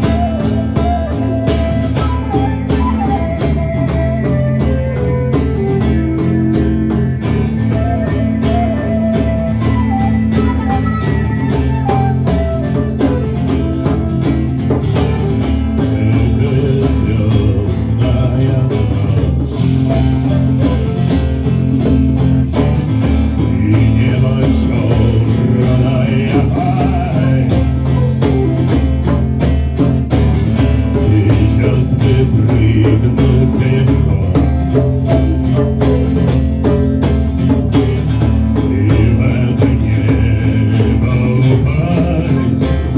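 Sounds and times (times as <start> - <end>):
guitar: 0.0 - 42.9
live band playing: 0.0 - 42.9.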